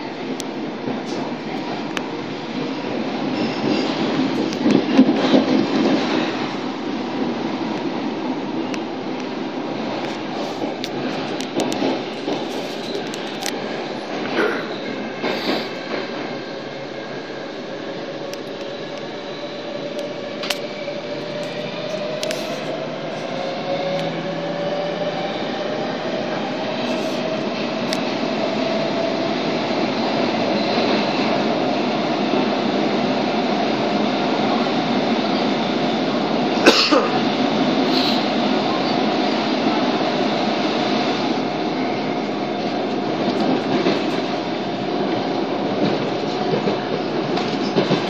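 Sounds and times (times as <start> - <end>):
subway car rumble and whine: 0.0 - 48.0.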